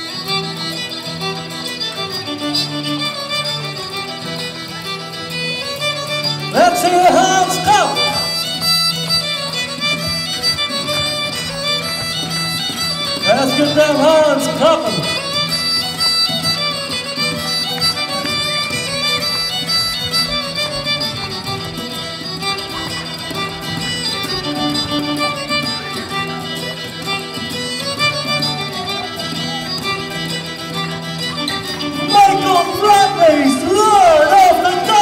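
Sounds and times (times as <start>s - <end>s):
fast fiddle dance music: 0.0s - 35.0s.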